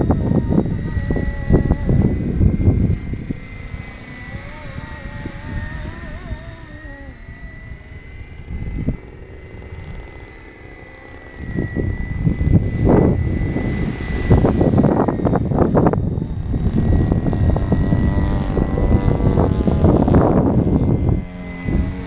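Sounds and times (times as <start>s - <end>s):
model helicopter rotor whine: 0.0s - 22.0s
wind buffeting microphone: 0.0s - 22.0s.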